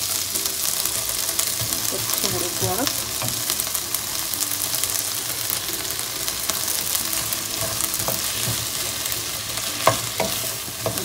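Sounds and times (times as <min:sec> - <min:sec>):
vegetables sizzling in a frying pan: 0:00.0 - 0:11.0
wooden spoon stirring in a pan: 0:00.0 - 0:11.0.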